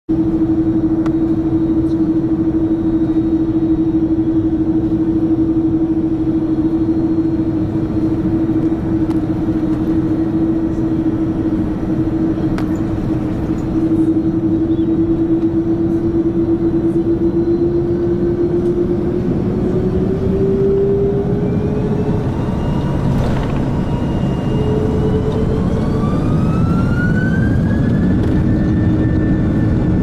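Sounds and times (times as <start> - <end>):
airliner cabin rumble and hum: 0.1 - 30.0.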